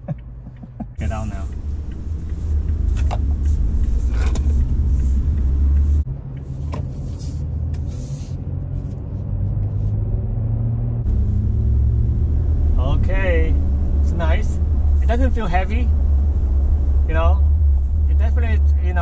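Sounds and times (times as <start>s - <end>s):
engine and road rumble in cab: 0.0s - 19.0s.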